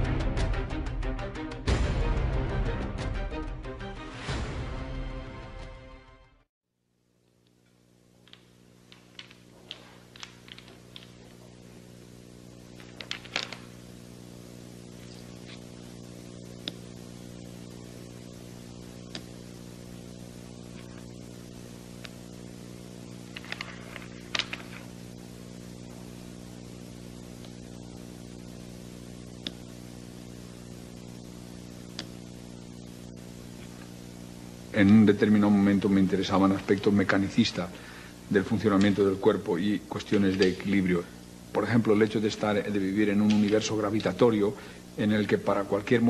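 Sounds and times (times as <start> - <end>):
electrical hum: 6.8 - 46.0.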